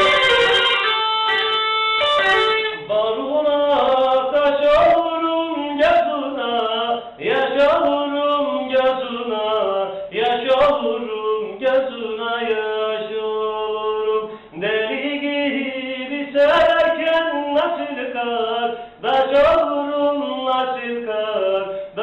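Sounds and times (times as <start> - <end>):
man singing a folk song: 0.0 - 22.0.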